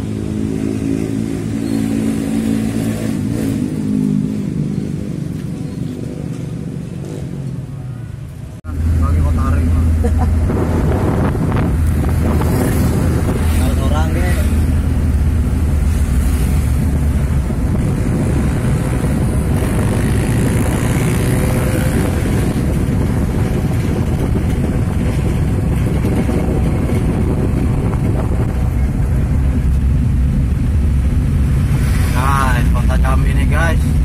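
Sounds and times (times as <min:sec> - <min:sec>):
road noise: 0:00.0 - 0:34.0
vehicle engine: 0:00.0 - 0:34.0.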